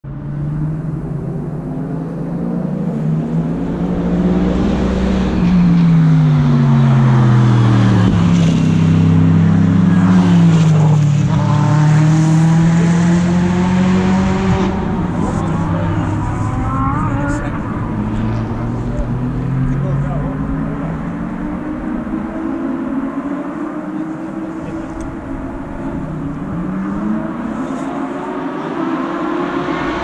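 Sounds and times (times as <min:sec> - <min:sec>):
race cars driving past: 0:00.1 - 0:30.0.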